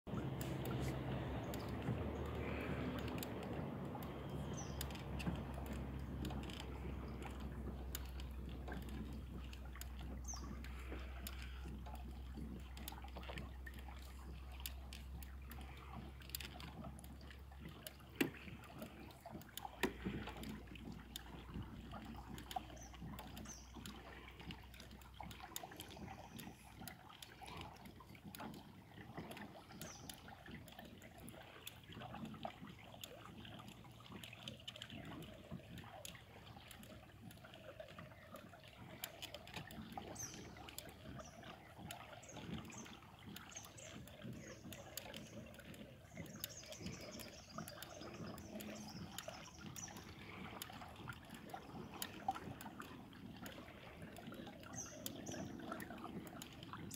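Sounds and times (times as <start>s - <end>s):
water lapping along kayak hull: 0.0s - 56.9s
small ticks: 0.2s - 56.9s.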